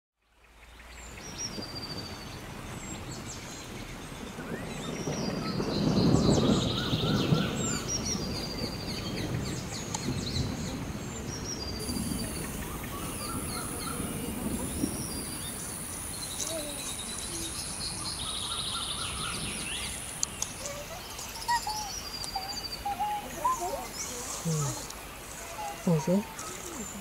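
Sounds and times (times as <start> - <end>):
forest noise: 0.2 - 27.0
birds chirping and whistling: 1.2 - 27.0.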